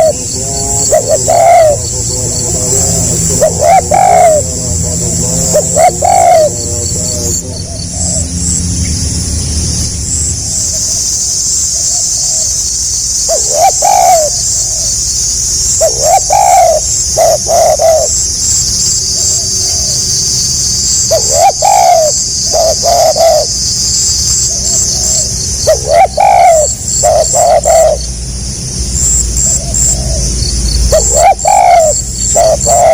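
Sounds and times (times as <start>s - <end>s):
dove cooing: 0.0s - 8.6s, 13.2s - 20.0s, 20.9s - 28.1s, 29.1s - 32.9s
high pulsing hiss: 0.0s - 32.9s.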